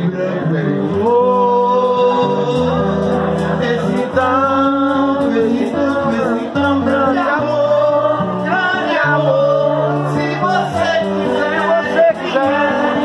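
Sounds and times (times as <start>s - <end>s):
acoustic guitar: 0.0s - 13.0s
held bass notes: 0.0s - 13.0s
man singing into microphone: 0.0s - 13.0s.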